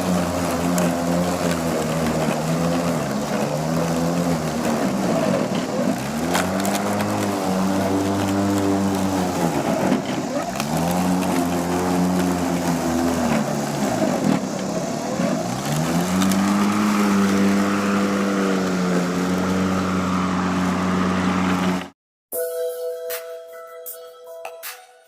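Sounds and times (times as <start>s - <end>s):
electric lawn mower running: 0.0s - 22.0s.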